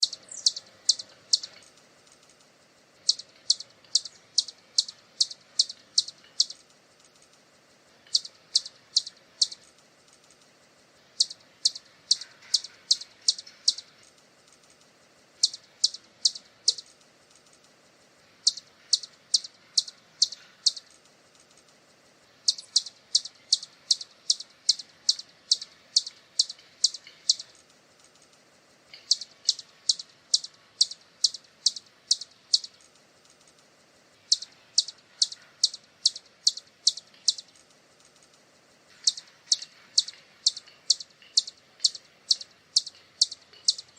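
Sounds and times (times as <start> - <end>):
hummingbird chipping: 0.0 - 43.9.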